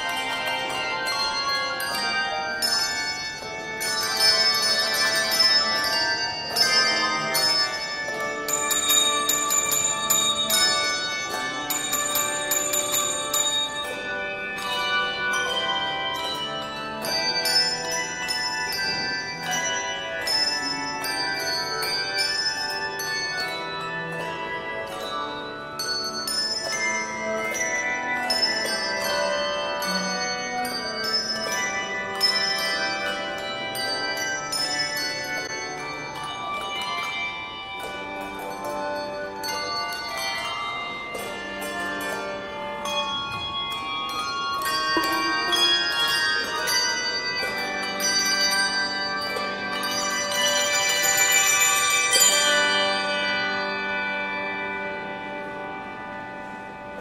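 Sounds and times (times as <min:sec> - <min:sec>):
handbell choir ringing: 0:00.0 - 0:57.0.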